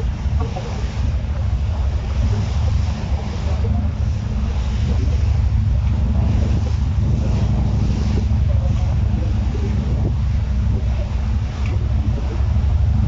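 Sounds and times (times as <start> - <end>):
boat engine drone: 0.0 - 13.0
water wash: 0.0 - 13.0
wind noise on microphone: 0.0 - 13.0.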